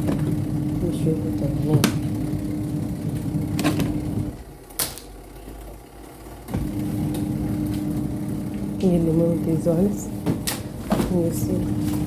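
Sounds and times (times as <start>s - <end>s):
spin-dryer motor humming: 0.0s - 12.0s.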